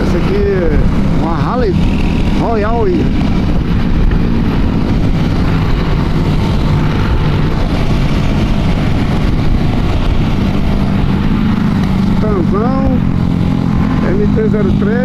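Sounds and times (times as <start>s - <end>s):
motorcycle engines running: 0.0s - 15.0s
wind noise: 0.0s - 15.0s.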